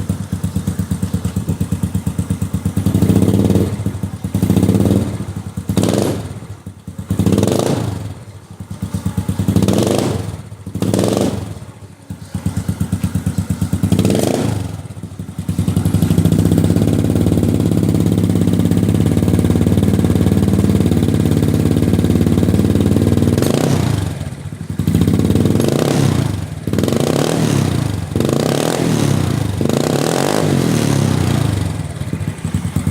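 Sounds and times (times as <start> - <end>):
scooter engine revving: 0.0 - 32.9.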